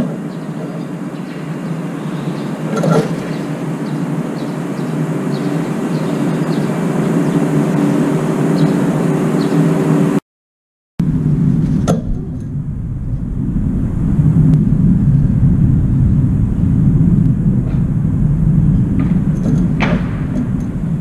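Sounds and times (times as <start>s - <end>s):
steady low rumble: 0.0s - 10.2s, 11.0s - 21.0s.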